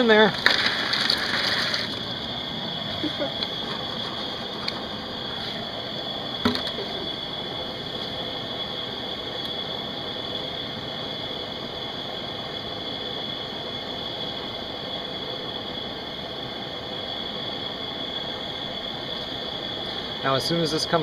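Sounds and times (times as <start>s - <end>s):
gas stove burner hissing: 0.0s - 21.0s.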